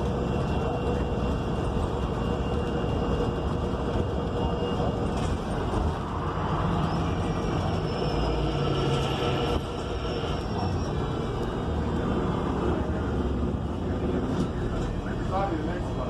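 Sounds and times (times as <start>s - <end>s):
bus engine running: 0.0s - 16.0s
road noise: 0.0s - 16.0s.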